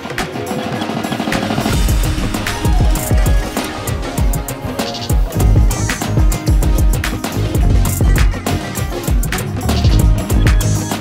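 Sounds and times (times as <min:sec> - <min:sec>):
music with heavy drum beat: 0:00.0 - 0:11.0.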